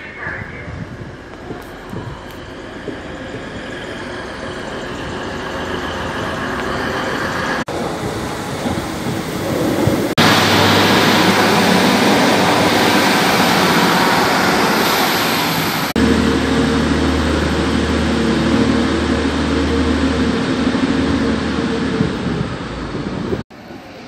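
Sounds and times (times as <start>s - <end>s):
train engine and wheel rush: 0.0s - 24.0s
train engine humming: 0.0s - 24.0s.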